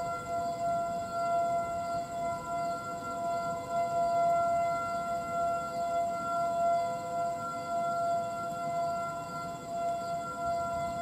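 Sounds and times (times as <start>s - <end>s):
distant warning sirens: 0.0s - 11.0s.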